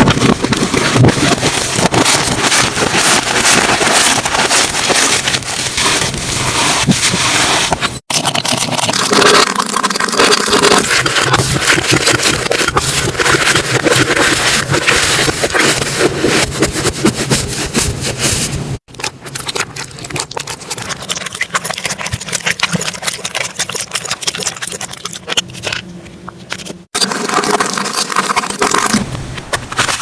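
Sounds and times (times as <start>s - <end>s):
slime squishing and crackling: 0.0s - 30.0s.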